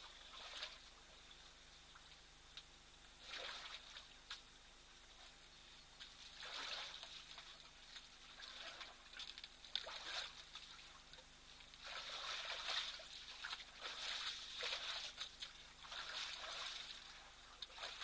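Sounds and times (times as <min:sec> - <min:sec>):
water sloshing and splashing: 0:00.0 - 0:01.2, 0:03.2 - 0:04.5, 0:06.0 - 0:18.0.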